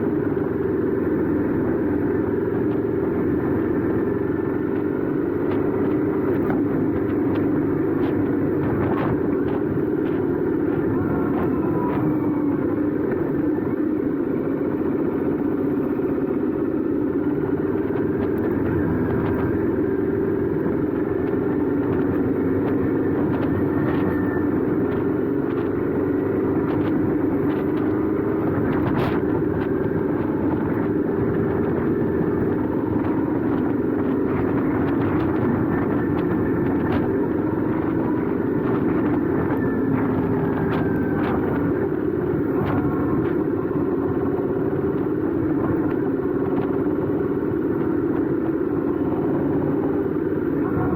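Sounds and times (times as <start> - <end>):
motorcycle engine running steadily: 0.0 - 50.9.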